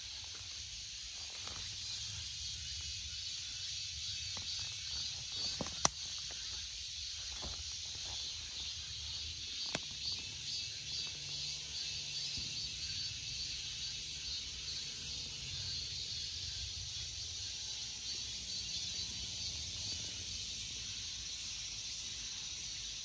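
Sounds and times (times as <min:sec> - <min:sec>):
cicadas droning: 0:00.0 - 0:23.0.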